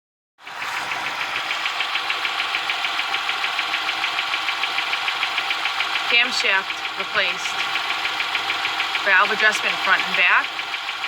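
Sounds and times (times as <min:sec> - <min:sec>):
engine ticking over hum: 0:00.4 - 0:11.0.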